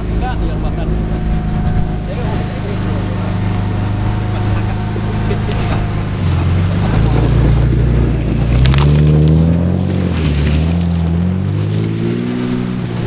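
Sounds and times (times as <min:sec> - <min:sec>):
engine running under load: 0:00.0 - 0:13.0.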